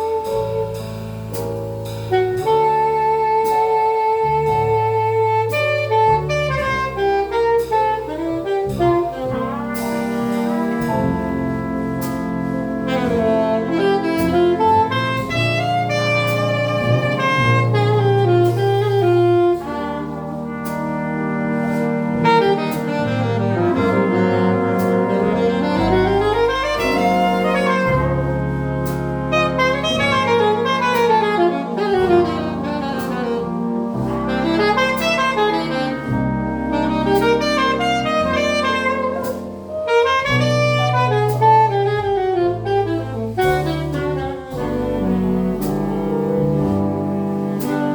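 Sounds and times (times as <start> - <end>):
drums with cymbal strokes: 0.0 - 47.9
walking double bass: 0.0 - 47.9
saxophone melodic runs: 2.1 - 10.0, 12.8 - 20.5, 22.1 - 28.6, 29.3 - 47.9.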